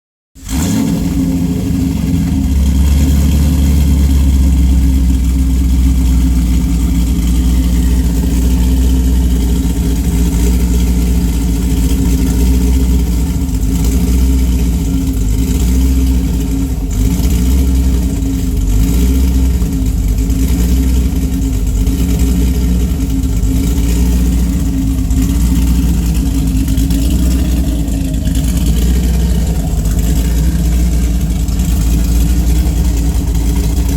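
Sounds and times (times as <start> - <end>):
engine idling with misfire: 0.3 - 33.9.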